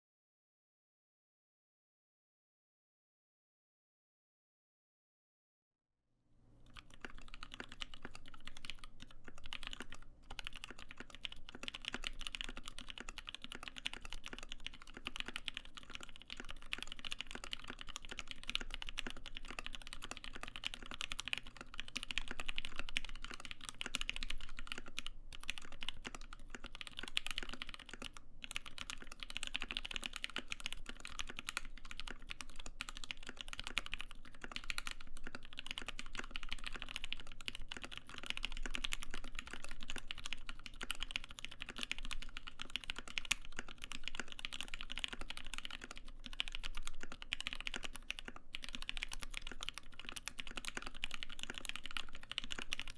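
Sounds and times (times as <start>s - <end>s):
mechanical keyboard typing: 6.6s - 52.9s.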